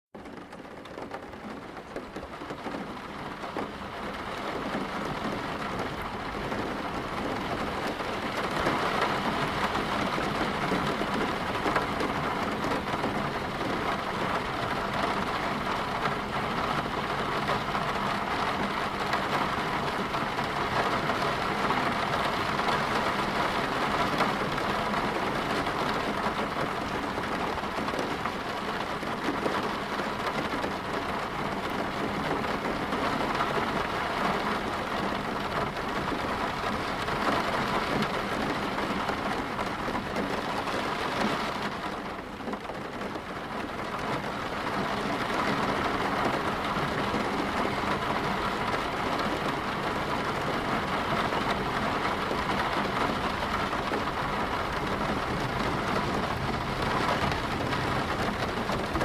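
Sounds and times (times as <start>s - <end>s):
steady rain falling: 0.2s - 59.0s.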